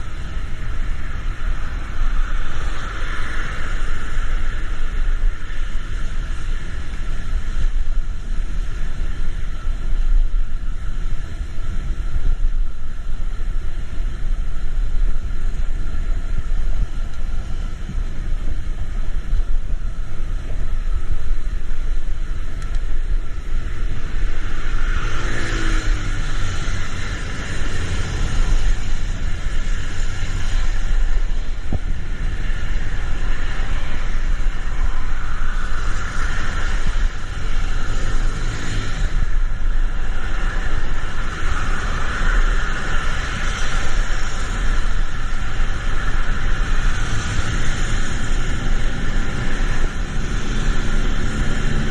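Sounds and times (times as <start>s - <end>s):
low rumble of vehicles: 0.0s - 51.9s
tyre hiss on wet road: 0.0s - 51.9s.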